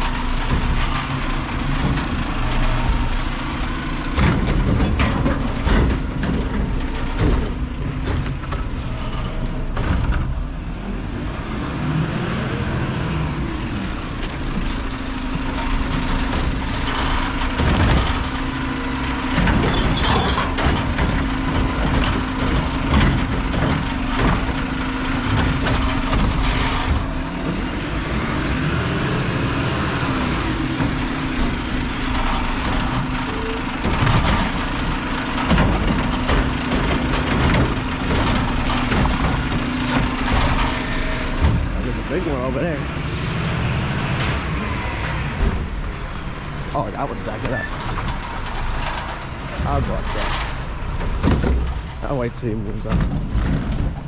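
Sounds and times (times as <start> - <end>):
clanks and knocks: 0.0 - 11.0, 13.1 - 42.9, 43.5 - 54.0
truck engine and hydraulics hum: 0.0 - 54.0.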